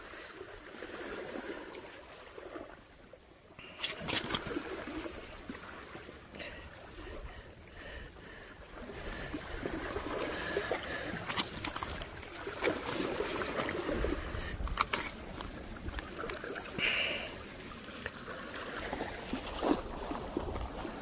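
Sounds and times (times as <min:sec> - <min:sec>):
water lapping against rocks: 0:00.0 - 0:21.0.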